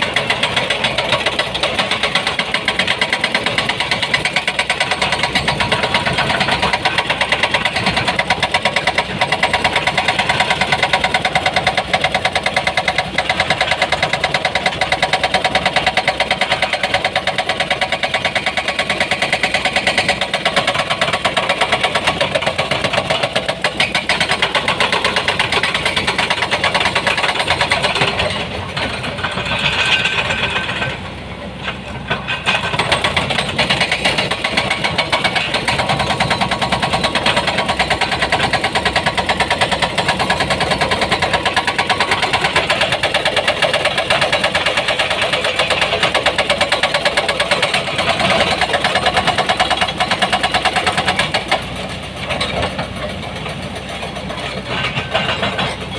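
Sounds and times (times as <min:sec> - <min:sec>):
diesel engine chugging: 0:00.0 - 0:55.9.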